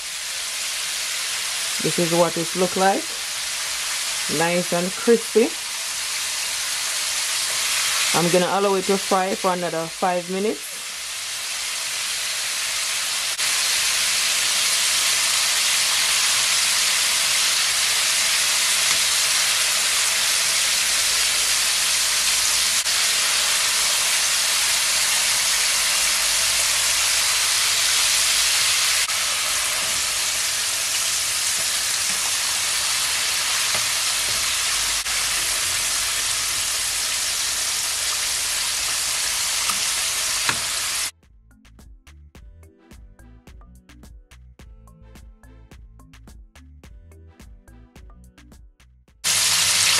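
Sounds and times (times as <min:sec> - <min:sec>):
chicken deep-frying in oil: 0:00.0 - 0:41.1, 0:49.2 - 0:49.9.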